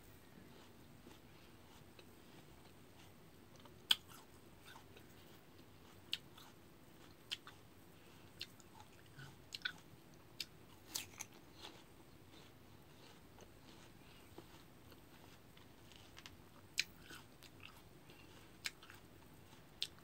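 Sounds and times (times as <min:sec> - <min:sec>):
chewing crisp fruit: 0:00.2 - 0:20.0.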